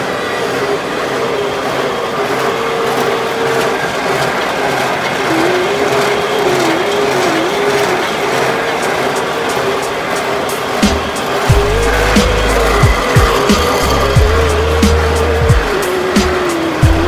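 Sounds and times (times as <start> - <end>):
drive whine: 0.0 - 17.0.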